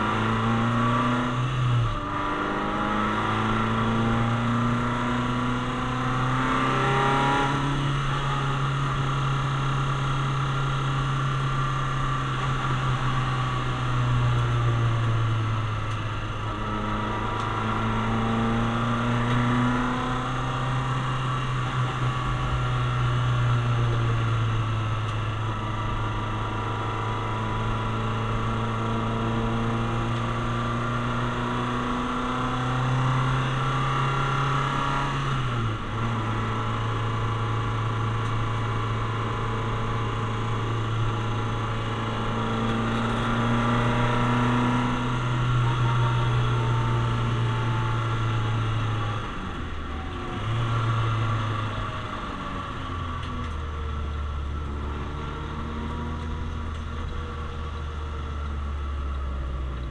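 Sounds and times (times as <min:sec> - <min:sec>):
car engine revving at high revs: 0:00.0 - 0:59.9.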